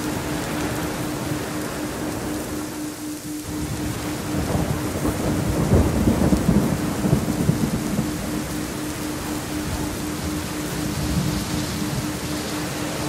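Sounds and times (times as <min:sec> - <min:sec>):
faint pulsing tone: 0:00.0 - 0:13.0
steady rain falling: 0:00.0 - 0:13.0
thunder rumbling: 0:00.0 - 0:13.0.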